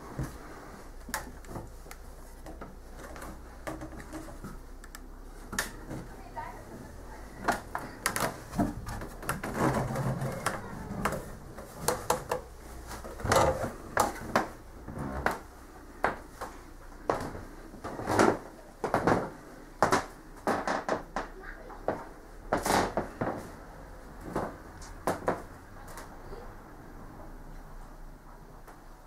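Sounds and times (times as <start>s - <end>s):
objects knocking and clattering: 1.0s - 26.1s.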